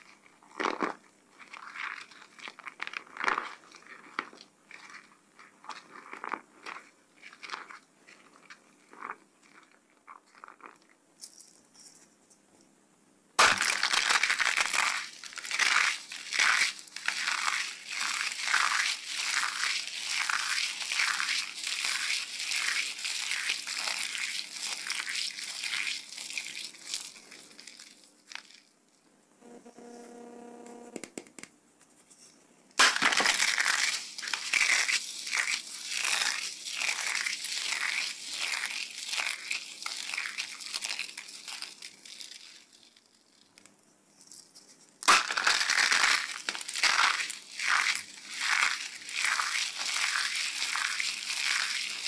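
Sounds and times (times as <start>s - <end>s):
dry soap crunching between fingers: 0.0s - 11.0s, 13.4s - 28.7s, 32.8s - 43.8s, 45.0s - 52.0s.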